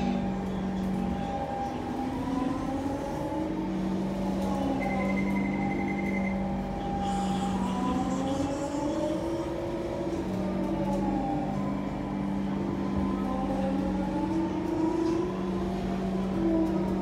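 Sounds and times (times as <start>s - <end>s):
train running hum: 0.0s - 17.0s.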